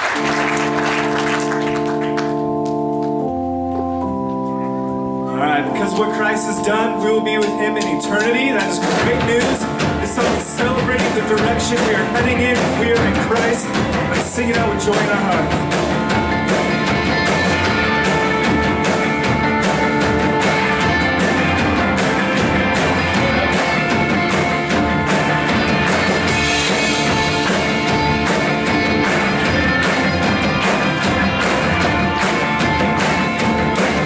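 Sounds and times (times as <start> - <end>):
electric guitar: 0.0 - 34.0
worship band playing: 0.0 - 34.0
drums: 5.7 - 34.0.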